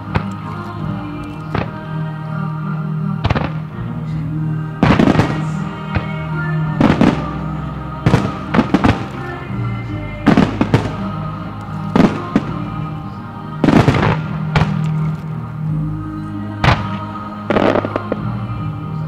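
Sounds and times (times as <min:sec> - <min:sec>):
music with sustained tones: 0:00.0 - 0:19.0.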